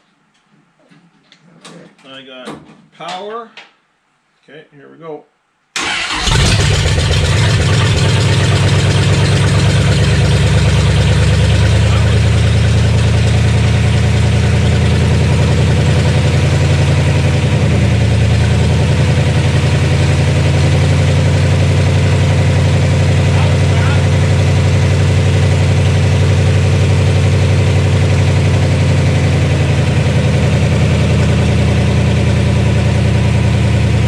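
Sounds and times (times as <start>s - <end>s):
car engine running steadily: 6.2s - 34.0s.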